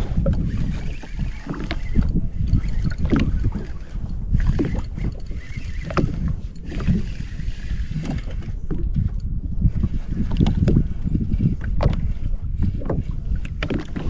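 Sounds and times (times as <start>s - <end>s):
waves slapping against hull: 0.0s - 14.0s
wind rumbling on microphone: 0.0s - 14.0s.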